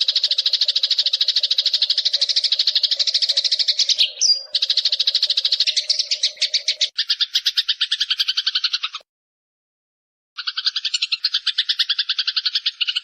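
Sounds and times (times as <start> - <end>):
sparrow chattering chirps: 0.0 - 9.0, 10.4 - 13.0.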